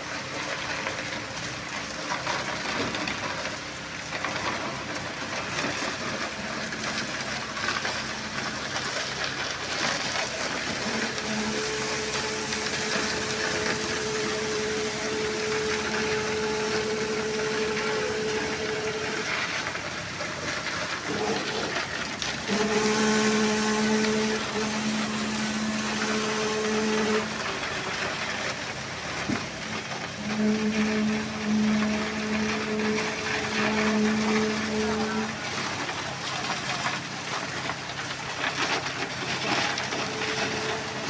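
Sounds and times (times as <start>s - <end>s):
construction machinery running: 0.0s - 41.0s.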